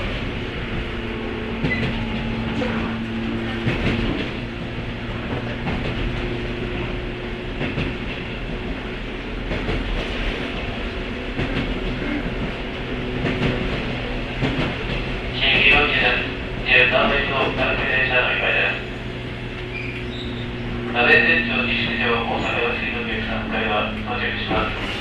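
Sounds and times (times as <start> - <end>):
train running rumble: 0.0 - 25.0.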